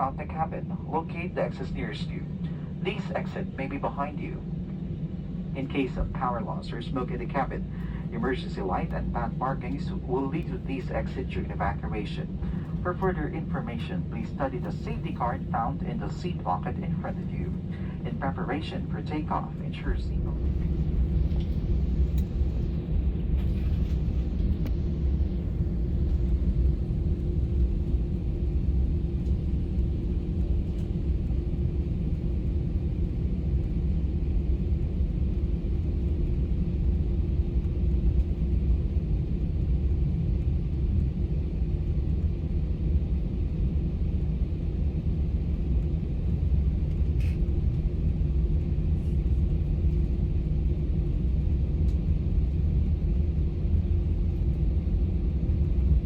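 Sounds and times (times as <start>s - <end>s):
faint even hum: 0.0s - 56.0s
jet engine cabin rumble: 0.0s - 56.0s.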